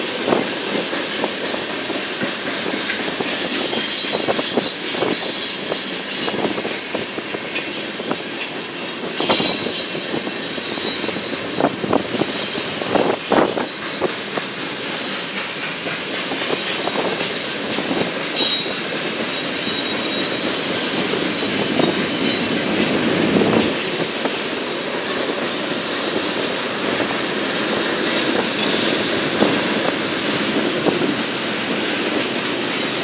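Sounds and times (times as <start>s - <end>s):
rumble of wheels on rails: 0.0s - 33.0s.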